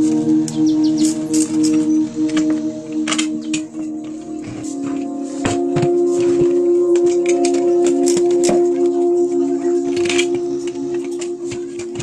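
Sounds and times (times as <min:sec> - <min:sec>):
held drone music: 0:00.0 - 0:12.0.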